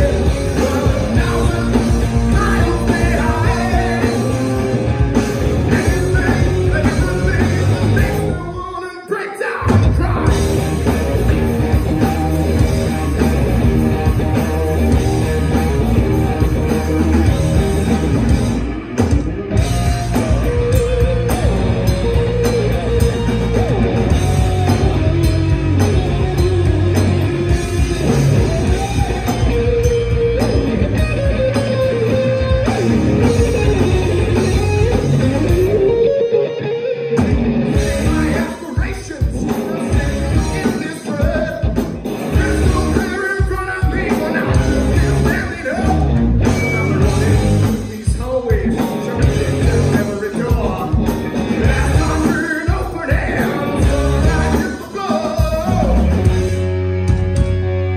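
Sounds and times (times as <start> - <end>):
lead guitar line bending: 0.0 - 8.6, 10.0 - 57.9
rock band playing live: 0.0 - 57.9.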